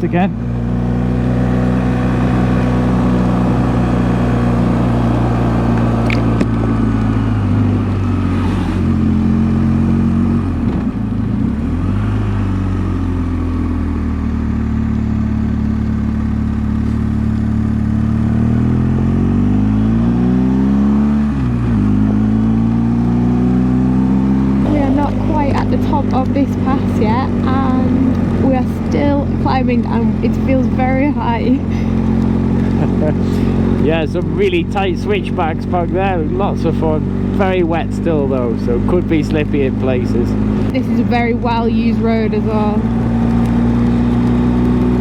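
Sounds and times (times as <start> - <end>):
motorcycle engine pulling uphill: 0.0 - 45.0.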